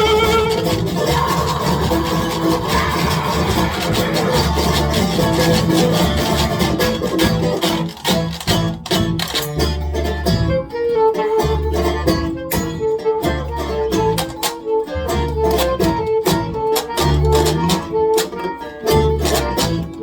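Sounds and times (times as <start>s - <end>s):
folk band playing: 0.0s - 20.0s.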